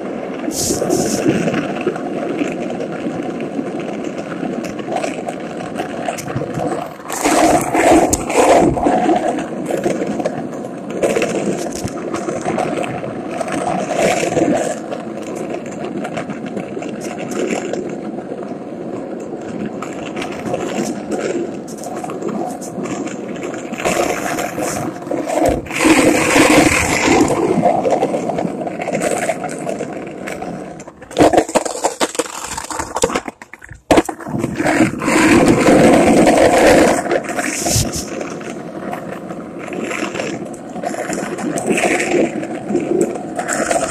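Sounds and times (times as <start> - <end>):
skateboard clacks: 0.0 - 43.9
skateboard wheels rolling on pavement: 0.0 - 43.9.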